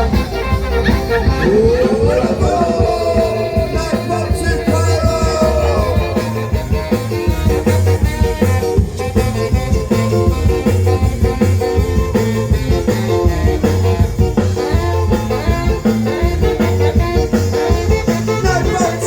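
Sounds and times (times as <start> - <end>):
bass line: 0.0 - 19.0
ska band playing: 0.0 - 19.0.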